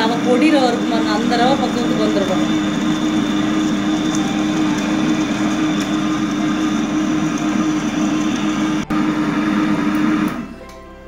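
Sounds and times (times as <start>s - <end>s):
wet grinder humming: 0.0s - 10.7s.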